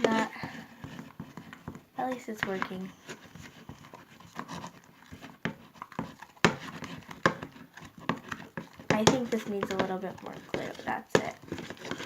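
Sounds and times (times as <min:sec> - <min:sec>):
wet slime squelching: 0:00.0 - 0:12.0.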